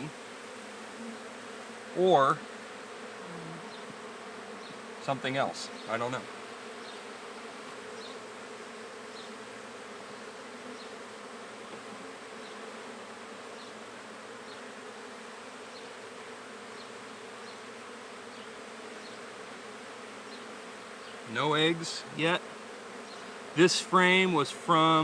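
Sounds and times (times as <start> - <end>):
bees humming: 0.0 - 25.0.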